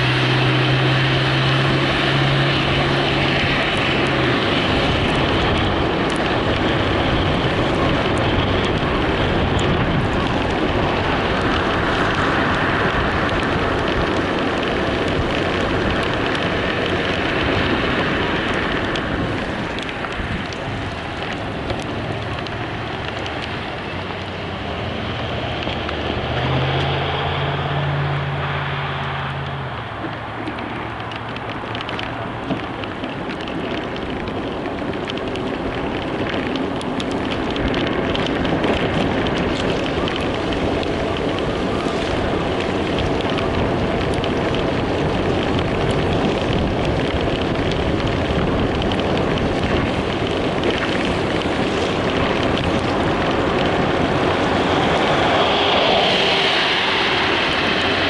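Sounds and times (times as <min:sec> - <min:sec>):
low engine drone: 0:00.0 - 0:58.0
road and wind noise: 0:00.0 - 0:58.0.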